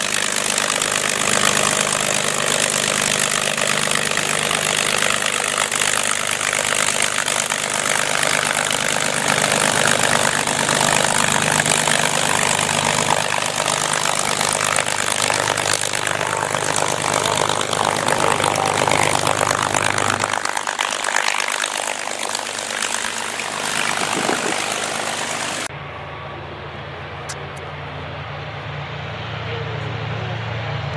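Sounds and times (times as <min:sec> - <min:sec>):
aircraft piston engine running: 0:00.0 - 0:30.9
propeller noise: 0:00.0 - 0:30.9.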